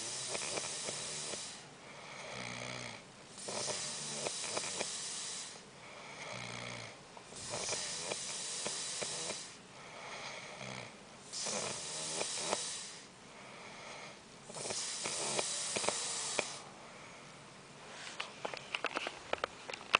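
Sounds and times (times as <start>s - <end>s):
person snoring: 0.0s - 16.7s.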